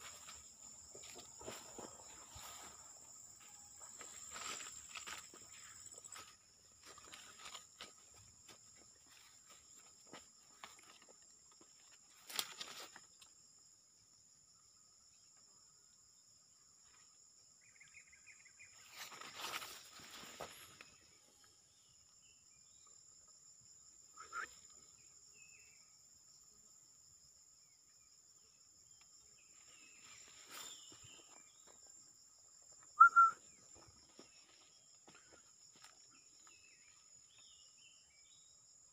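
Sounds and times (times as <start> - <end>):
insects buzzing: 0.0 - 38.8.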